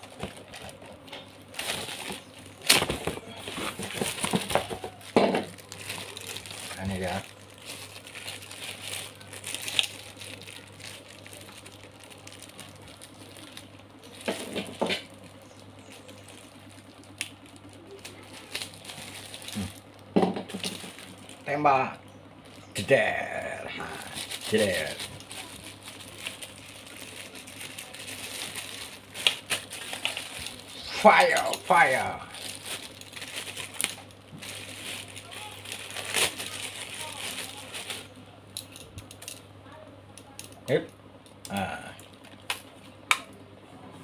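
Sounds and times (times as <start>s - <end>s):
plastic wrap crinkles: 0.0s - 21.6s, 22.4s - 39.4s, 41.4s - 43.4s
plastic wrap rustling: 0.0s - 21.6s, 22.4s - 39.4s.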